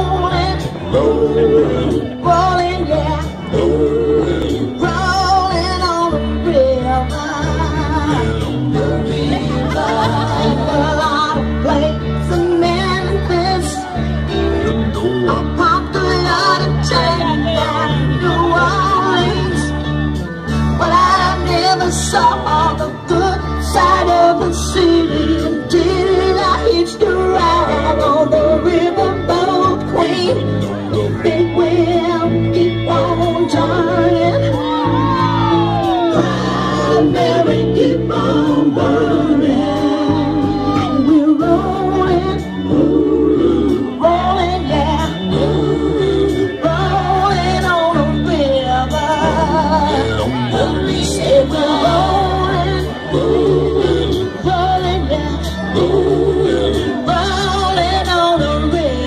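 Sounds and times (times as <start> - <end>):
person singing over music: 0.0 - 59.0
steady bass line: 0.0 - 59.0.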